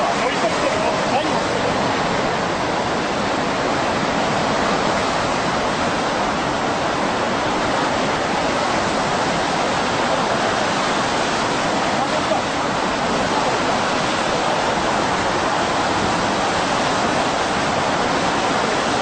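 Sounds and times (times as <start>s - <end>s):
rushing surf: 0.0s - 19.0s.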